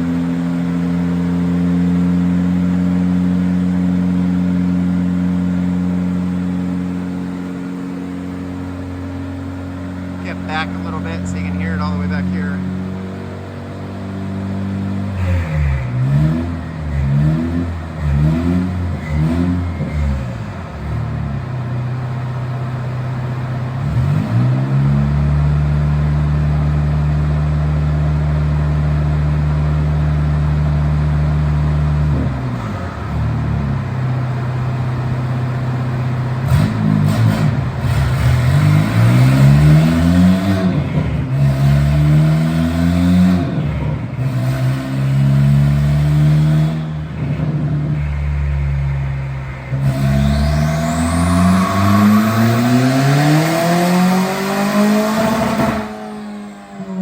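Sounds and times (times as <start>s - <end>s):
turbocharged car engine revving: 0.0s - 57.0s.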